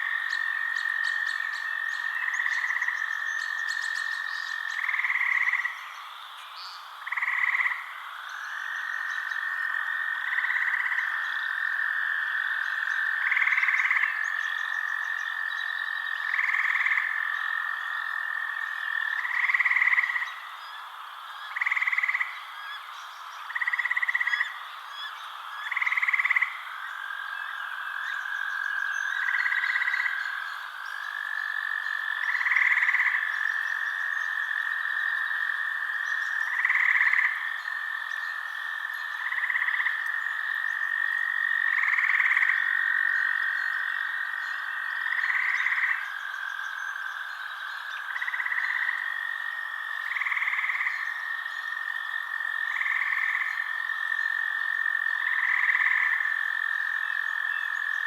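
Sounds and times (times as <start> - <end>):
continuous steady frog trill: 0.0 - 58.0
faint frog chirping: 0.0 - 58.0
frog trilling call: 0.0 - 58.0.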